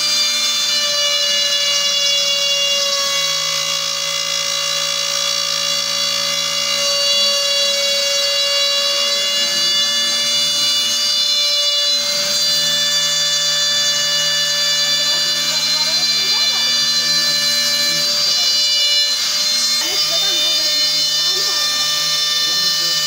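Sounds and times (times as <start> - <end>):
router high-pitched whine: 0.0 - 23.0.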